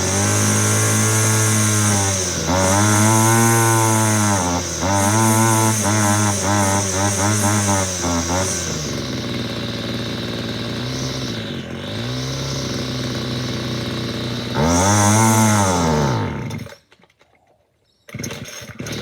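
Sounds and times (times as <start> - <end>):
string trimmer engine revving: 0.0 - 16.8, 18.1 - 19.0.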